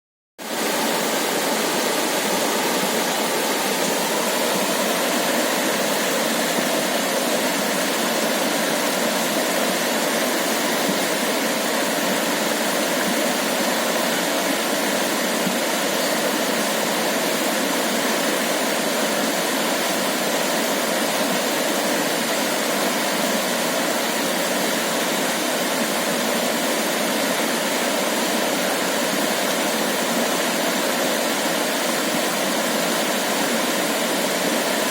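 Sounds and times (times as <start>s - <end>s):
rushing water: 0.4s - 34.9s.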